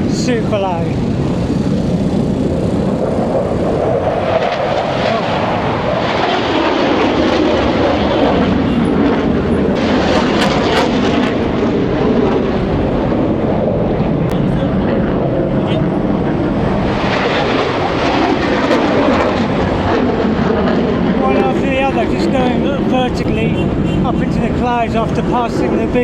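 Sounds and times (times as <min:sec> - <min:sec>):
fighter jet roar: 0:00.0 - 0:26.0.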